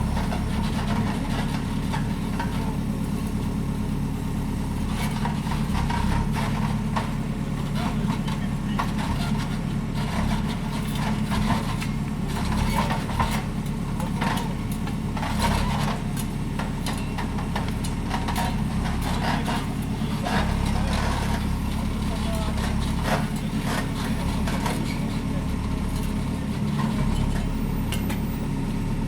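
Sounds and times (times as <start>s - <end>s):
earthmoving machine engine hum: 0.0s - 29.0s.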